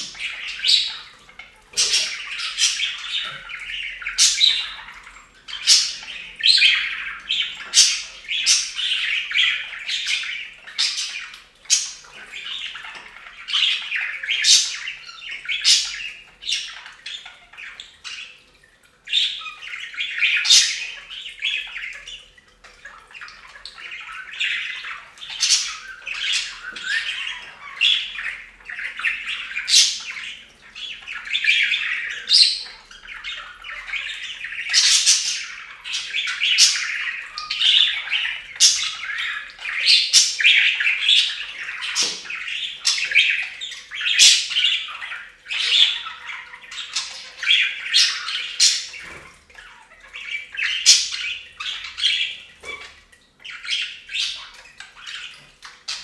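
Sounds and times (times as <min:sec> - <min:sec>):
bird squawks and chirps: 0:00.0 - 0:56.0
budgerigars chattering: 0:00.0 - 0:56.0.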